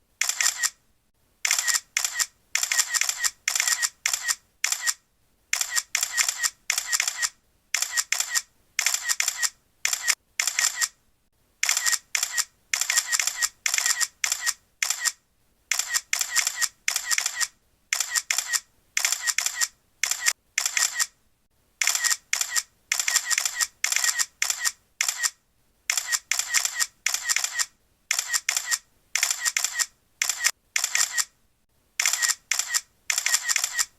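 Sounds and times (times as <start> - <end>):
camera shutter clicks: 0.2 - 0.8, 1.4 - 11.0, 11.6 - 21.2, 21.8 - 31.3, 32.0 - 33.9.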